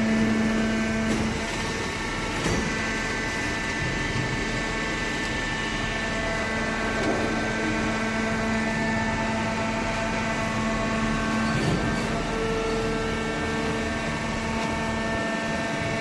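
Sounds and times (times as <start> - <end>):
hydraulic baler machine hum: 0.0 - 16.0.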